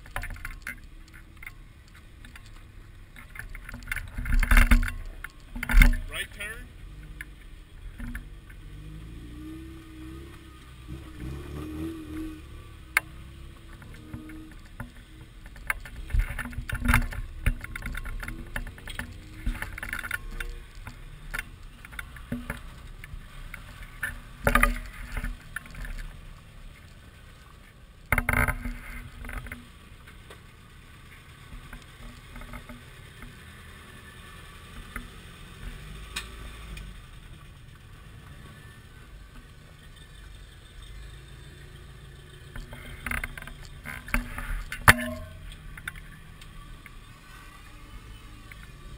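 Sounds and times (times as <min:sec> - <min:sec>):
tyres and suspension clunking: 0:00.0 - 0:48.9.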